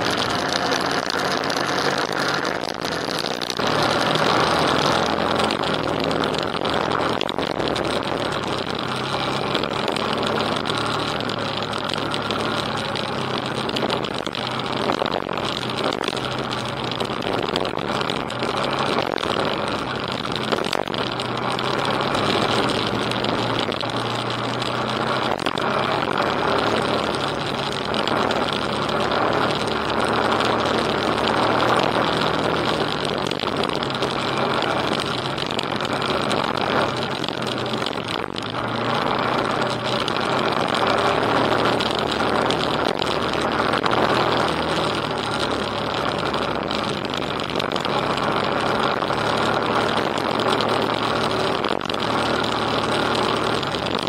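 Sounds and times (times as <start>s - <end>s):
motorcycle engine running: 0.0s - 54.0s
tyres on gravel: 0.0s - 54.0s
wind noise: 0.0s - 54.0s.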